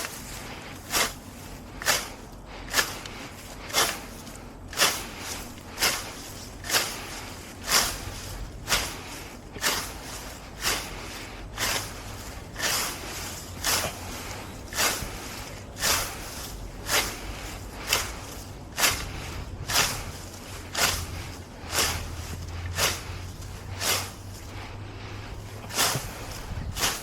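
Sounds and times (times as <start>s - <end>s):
heavy laboured breathing: 0.0s - 27.0s.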